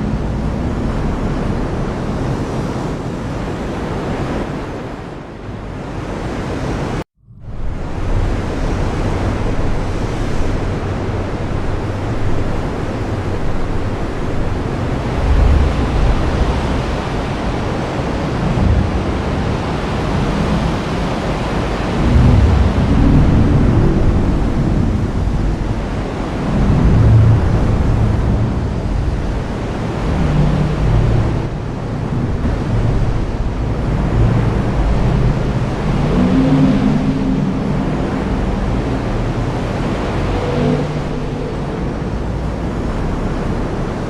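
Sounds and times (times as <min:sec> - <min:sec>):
deep low rumbles: 0:07.2 - 0:44.0.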